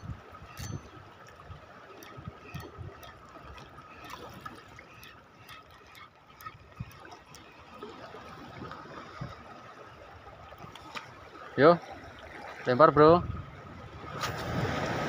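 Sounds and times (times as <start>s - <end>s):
small waves lapping on rocks: 0.0s - 15.0s.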